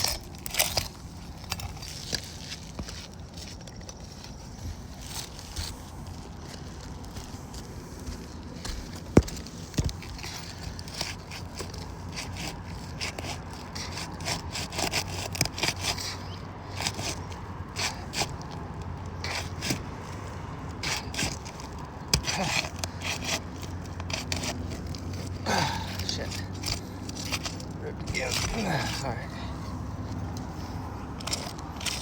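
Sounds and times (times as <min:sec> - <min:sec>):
roof shingles scraping and tearing: 0:00.0 - 0:32.0.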